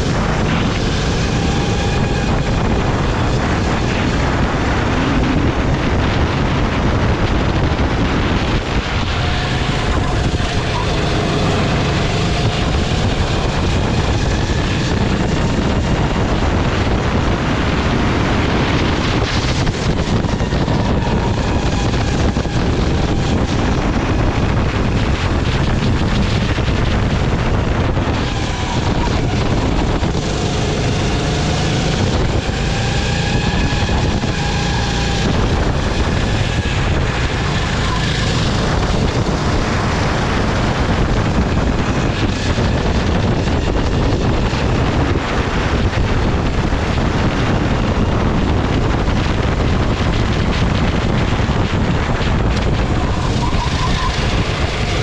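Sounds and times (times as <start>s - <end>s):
kart engine racing: 0.0s - 55.0s
wind on microphone: 0.0s - 55.0s.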